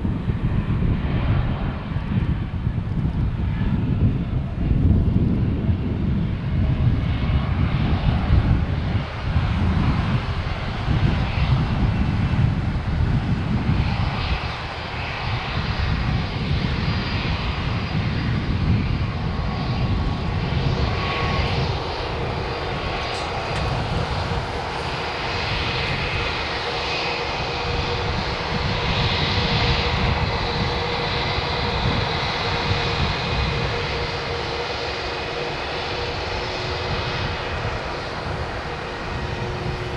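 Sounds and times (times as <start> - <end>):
engine whine: 0.0 - 39.9
jet engines rumbling: 0.0 - 39.9.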